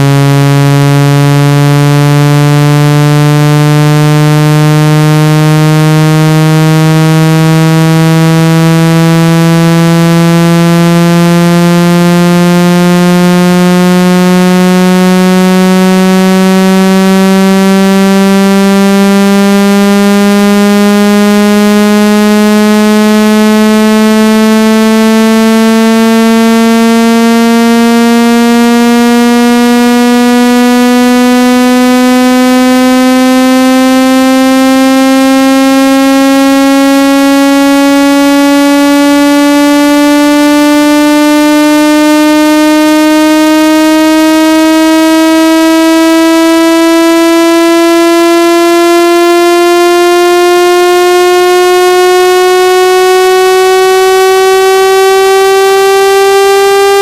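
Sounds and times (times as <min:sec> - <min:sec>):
buzzy tone sliding upward: 0:00.0 - 0:57.0.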